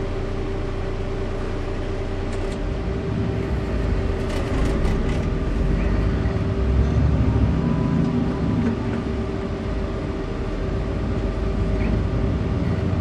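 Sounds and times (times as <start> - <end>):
bus engine accelerating: 0.0 - 13.0
cabin hum: 0.0 - 13.0.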